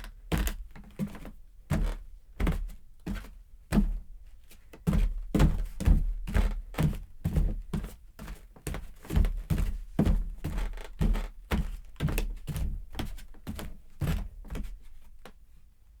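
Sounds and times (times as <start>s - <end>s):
footsteps walking indoors: 0.0s - 15.4s.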